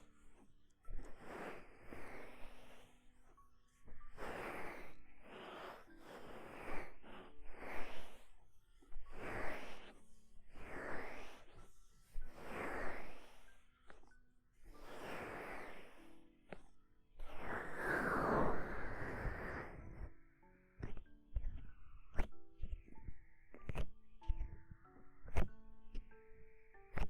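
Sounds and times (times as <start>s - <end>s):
faint soft music: 0.0s - 27.0s.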